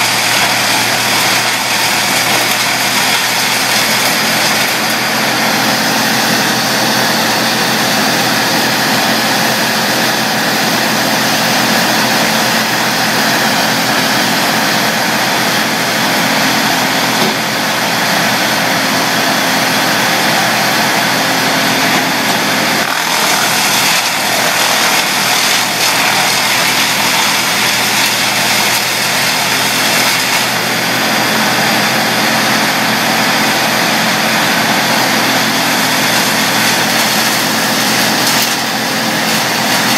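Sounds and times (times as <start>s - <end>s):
brush chipper engine running: 0.0s - 39.9s.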